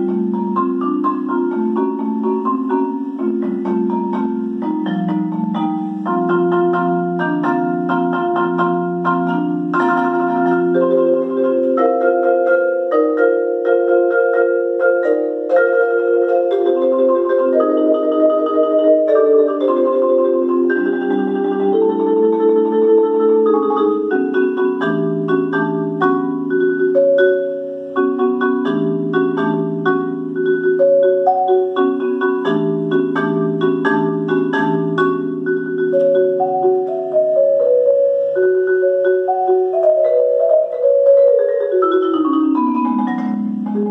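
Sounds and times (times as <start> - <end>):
solo marimba playing chords: 0.0 - 43.9.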